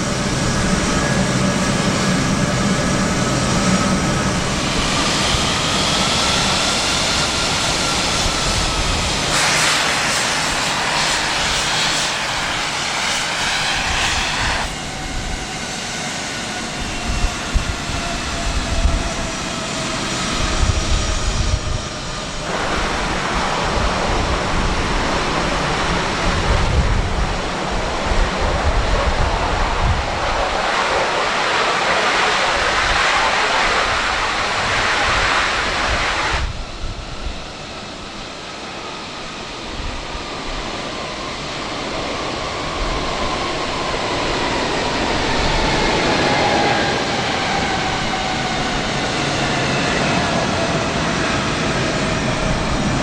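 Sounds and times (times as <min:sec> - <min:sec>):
jet engines roaring with whine: 0:00.0 - 0:53.0.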